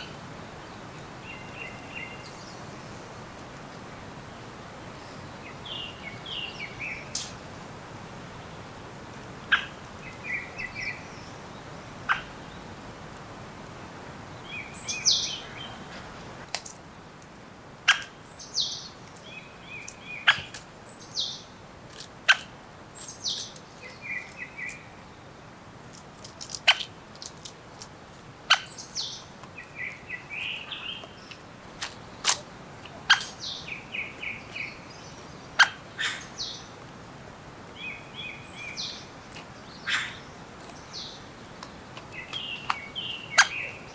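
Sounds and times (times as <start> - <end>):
faint steady background hiss: 0.0 - 43.9
songbirds calling: 0.0 - 43.9.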